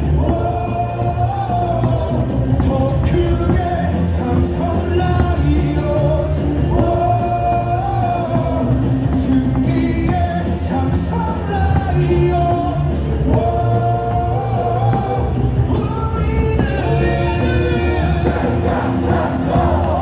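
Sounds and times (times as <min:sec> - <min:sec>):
amplified backing music: 0:00.0 - 0:20.0
crowd singing a cheer song: 0:00.0 - 0:20.0.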